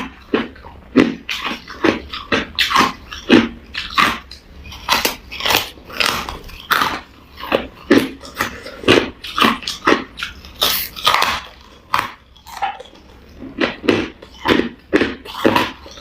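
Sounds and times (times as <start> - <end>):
crushed ice being chewed: 0.0 - 16.0.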